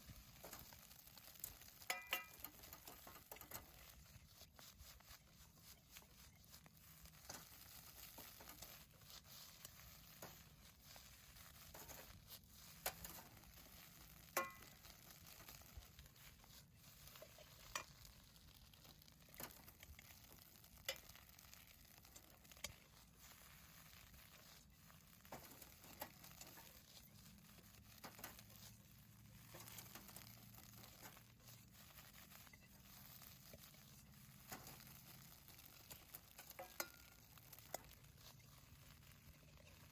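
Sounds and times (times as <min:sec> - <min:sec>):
rice sizzling in a pan: 0:00.0 - 0:39.9.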